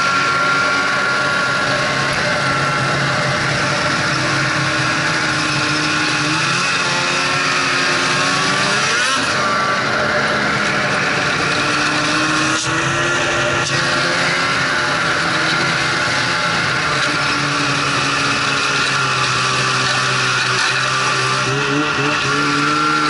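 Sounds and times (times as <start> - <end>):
snowmobile engine running: 0.0 - 23.0
track and wind noise: 0.0 - 23.0.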